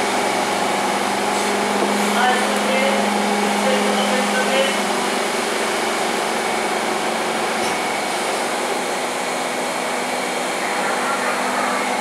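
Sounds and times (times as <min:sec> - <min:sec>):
train car air-conditioning hum: 0:00.0 - 0:12.0.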